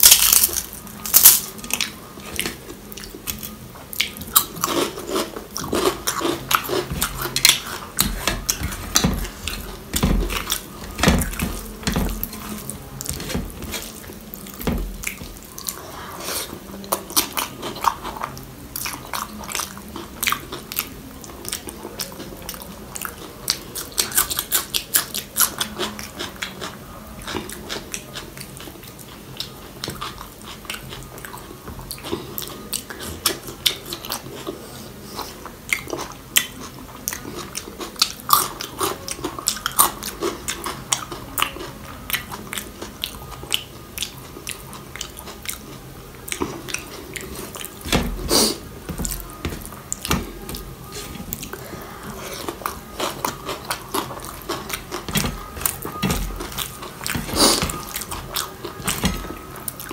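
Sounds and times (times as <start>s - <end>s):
close chewing with wet smacks: 1.6s - 15.8s, 16.8s - 59.9s.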